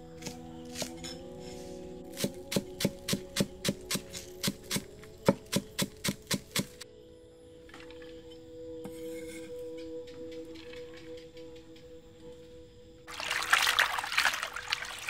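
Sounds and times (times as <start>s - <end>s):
soft music with held tones: 0.0s - 15.0s.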